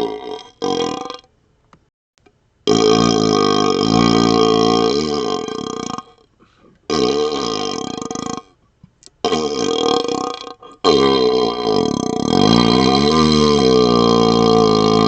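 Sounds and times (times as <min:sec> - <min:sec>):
man burping through a tube: 0:00.0 - 0:01.3, 0:02.7 - 0:08.6, 0:09.2 - 0:15.0.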